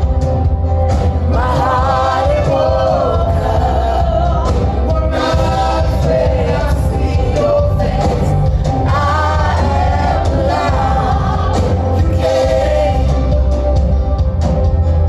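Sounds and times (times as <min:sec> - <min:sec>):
band playing worship music: 0:00.0 - 0:15.0
heavy steady bass: 0:00.0 - 0:15.0
people singing: 0:01.0 - 0:13.8.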